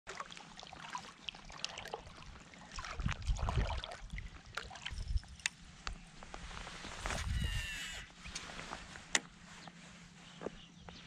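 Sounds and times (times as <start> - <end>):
water lapping and trickling: 0.1 - 10.6.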